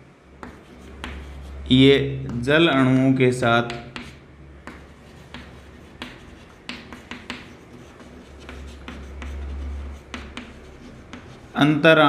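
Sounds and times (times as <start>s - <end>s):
low steady hum: 0.0s - 12.0s
chalk tapping and scraping on board: 0.3s - 11.6s.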